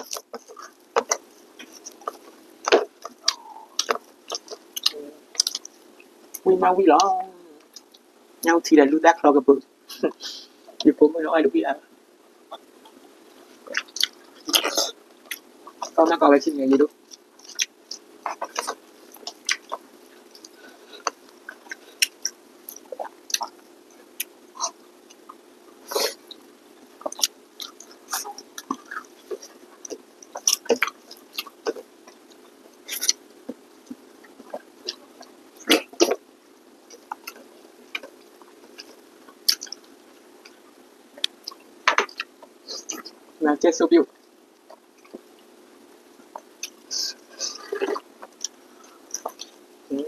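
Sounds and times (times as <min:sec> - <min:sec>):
people chewing and smacking: 0:00.0 - 0:08.1, 0:12.2 - 0:43.4, 0:44.1 - 0:49.9
faint steady hum: 0:00.0 - 0:50.0.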